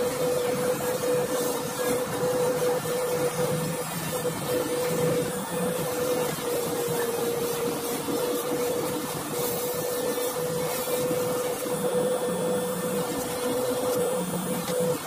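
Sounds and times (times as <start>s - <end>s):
electric polishing tool humming: 0.0s - 15.0s.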